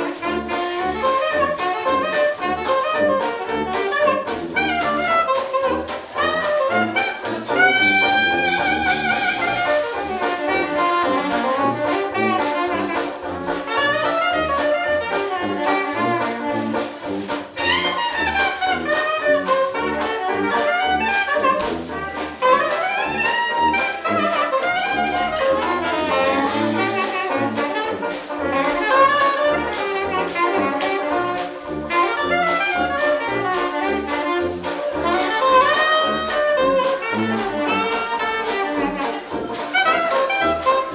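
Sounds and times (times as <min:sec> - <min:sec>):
banjo: 0:00.0 - 0:40.9
clarinet: 0:00.0 - 0:40.9
trumpet: 0:00.0 - 0:40.9
washboard beat: 0:00.0 - 0:40.9
sousaphone bass: 0:04.0 - 0:40.8.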